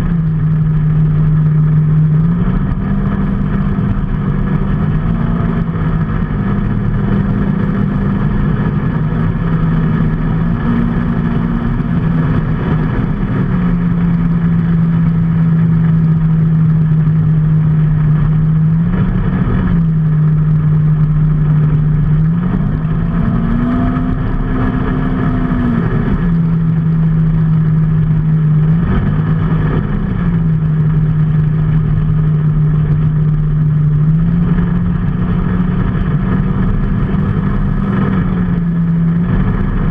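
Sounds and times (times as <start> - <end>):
constant rushing noise: 0.0 - 39.9
motor vehicle engine running: 0.0 - 39.9.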